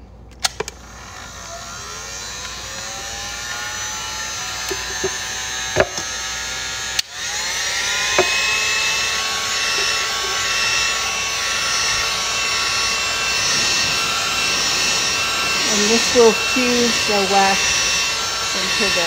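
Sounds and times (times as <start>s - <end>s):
heat gun fan whining: 0.0s - 19.0s.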